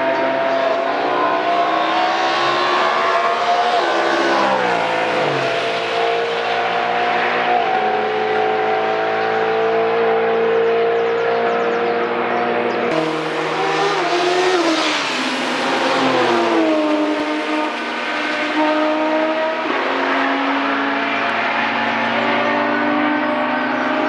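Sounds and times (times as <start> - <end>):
vehicles passing at speed: 0.0 - 24.0.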